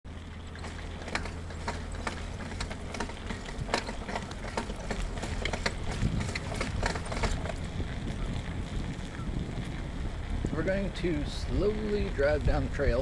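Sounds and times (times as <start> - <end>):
bicycle parts rattling: 0.1 - 13.0
bicycle tyres rumbling on dirt: 0.1 - 13.0.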